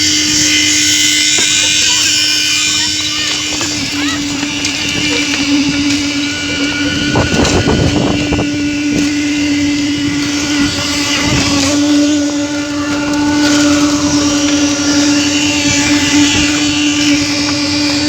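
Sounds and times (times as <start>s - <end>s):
construction machine engine hum: 0.0s - 18.0s.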